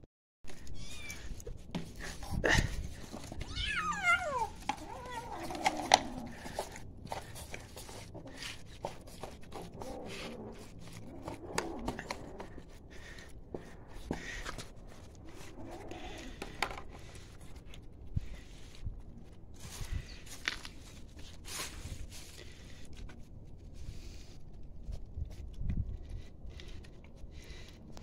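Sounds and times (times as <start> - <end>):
cats chewing and licking food: 0.5 - 28.0.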